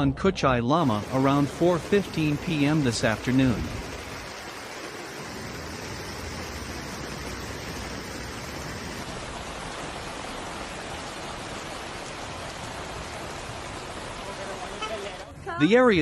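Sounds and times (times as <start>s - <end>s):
flood water rushing: 0.8s - 16.0s
heavy rain: 0.8s - 16.0s.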